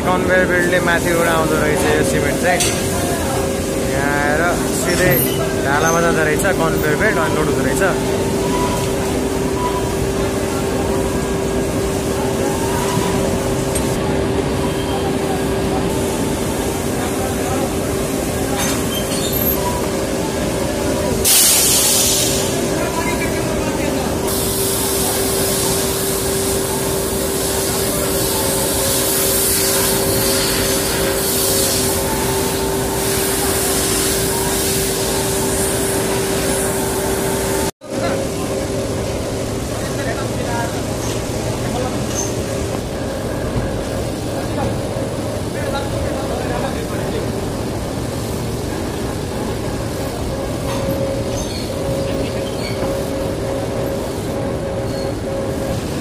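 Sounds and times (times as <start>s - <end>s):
conveyor machine humming: 0.0s - 56.0s.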